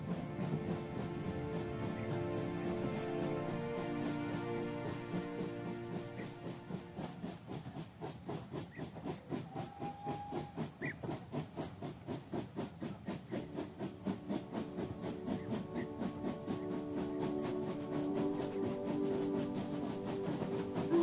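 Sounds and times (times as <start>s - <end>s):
steam hissing: 0.0s - 21.0s
steam locomotive chuffing: 0.0s - 21.0s.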